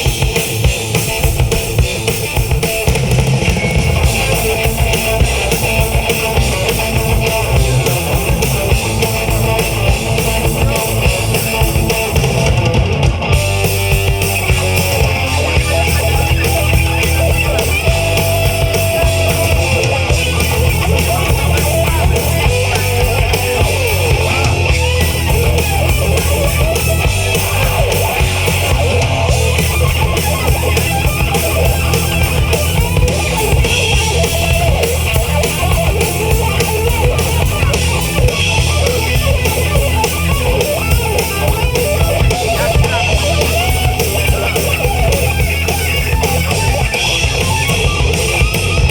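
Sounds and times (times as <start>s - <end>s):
bass guitar: 0.0s - 48.9s
drum kit: 0.0s - 48.9s
electric guitars: 0.0s - 48.9s.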